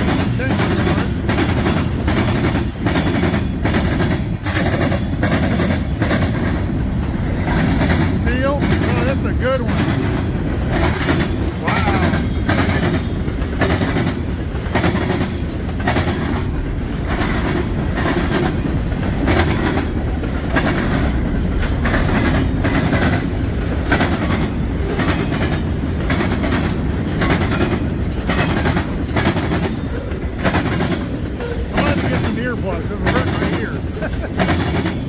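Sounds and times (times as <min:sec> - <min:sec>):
train wheels rumbling on rail: 0:00.0 - 0:35.0
wheels clacking over rail joints: 0:00.0 - 0:35.0.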